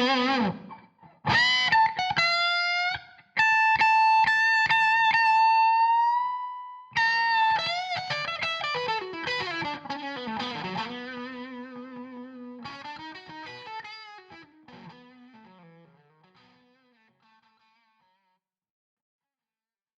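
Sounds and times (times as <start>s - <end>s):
distorted electric guitar blues lead: 0.0s - 17.9s.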